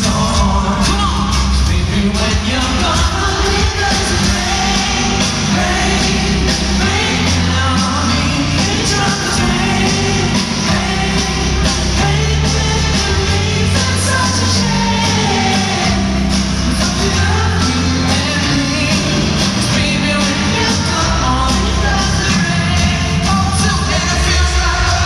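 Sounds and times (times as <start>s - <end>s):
bass notes: 0.0s - 25.0s
drums: 0.0s - 25.0s
person singing: 0.0s - 25.0s
strummed acoustic guitars: 0.0s - 25.0s.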